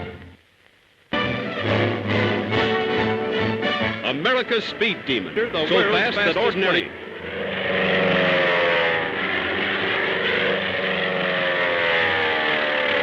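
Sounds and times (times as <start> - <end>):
aircraft engines droning: 1.2 - 13.0.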